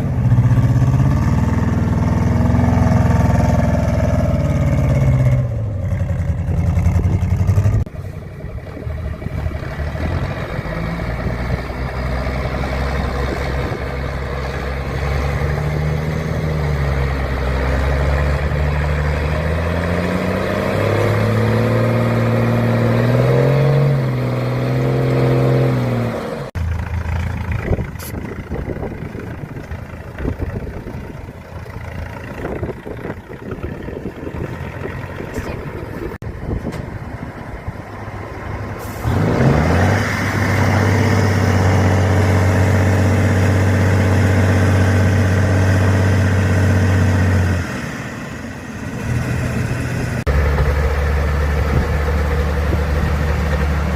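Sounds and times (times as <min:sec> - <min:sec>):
truck engine under load: 0:00.0 - 0:53.9.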